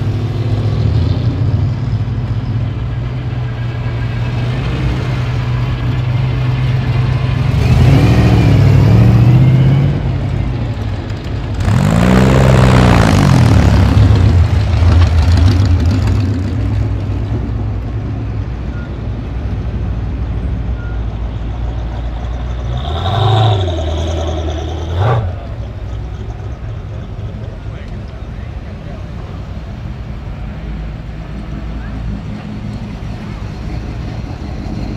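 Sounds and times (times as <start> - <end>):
cars driving past: 0.0 - 34.9.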